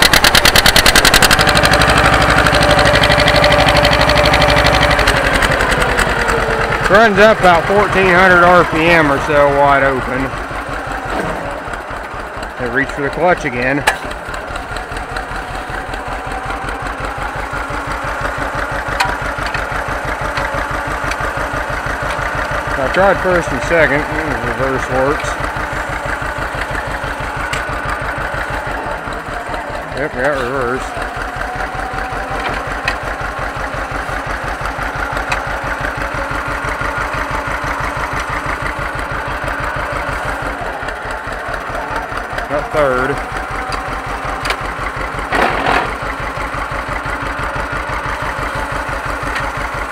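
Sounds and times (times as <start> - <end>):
two-cylinder engine running: 0.0 - 49.9.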